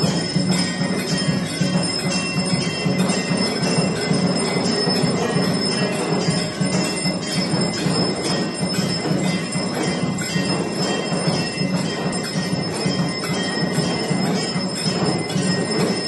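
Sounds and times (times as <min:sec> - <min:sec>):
steady rapid beat: 0:00.0 - 0:16.0
temple bells clanging and ringing: 0:00.0 - 0:16.0.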